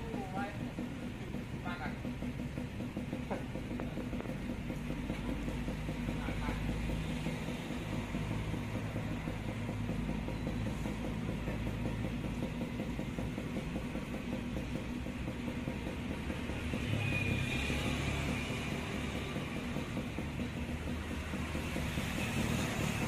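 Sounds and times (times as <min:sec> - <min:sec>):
engine idling hum: 0:00.0 - 0:23.0
street traffic: 0:00.0 - 0:23.0.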